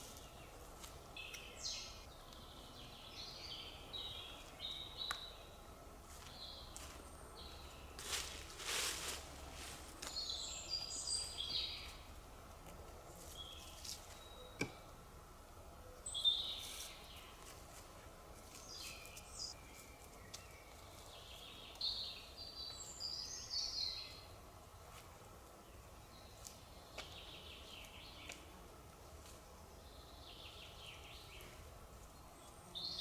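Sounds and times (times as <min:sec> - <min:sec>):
songbird chirping: 0:00.0 - 0:12.2, 0:15.8 - 0:17.8, 0:18.4 - 0:24.4, 0:25.5 - 0:28.6, 0:29.5 - 0:33.0.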